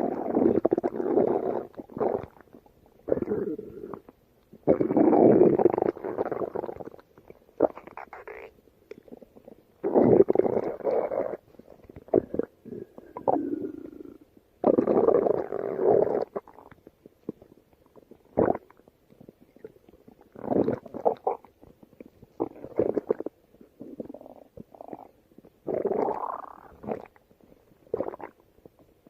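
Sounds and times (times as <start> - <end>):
stomach growling: 0.0 - 29.0.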